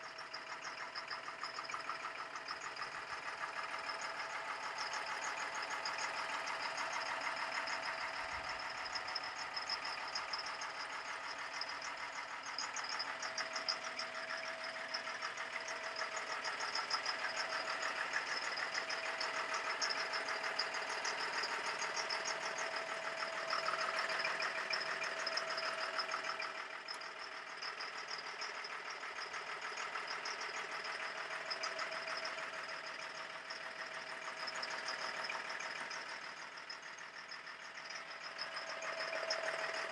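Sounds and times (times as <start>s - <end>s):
diesel truck engine clattering: 0.1s - 39.9s.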